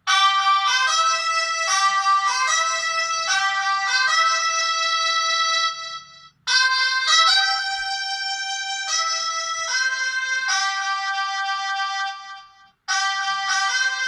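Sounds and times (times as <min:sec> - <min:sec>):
polyphonic ringtone melody: 0:00.0 - 0:14.0.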